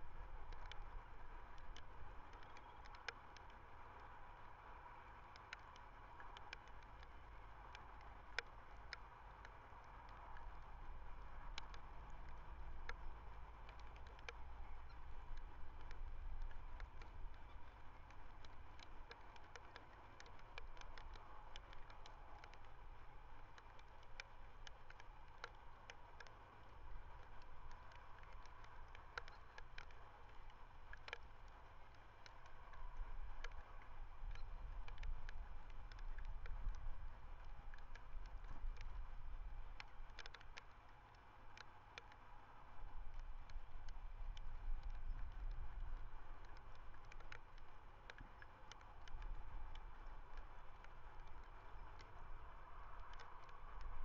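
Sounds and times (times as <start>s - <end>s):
faint steady hum: 0.0s - 54.0s
sharp clicks and crackles: 0.0s - 54.0s.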